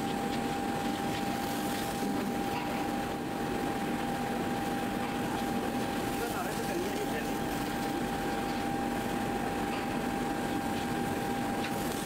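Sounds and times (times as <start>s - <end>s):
constant high whine: 0.0s - 12.0s.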